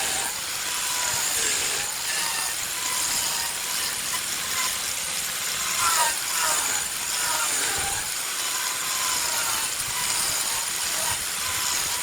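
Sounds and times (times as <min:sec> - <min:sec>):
wood lathe cutting with hissing: 0:00.0 - 0:12.0.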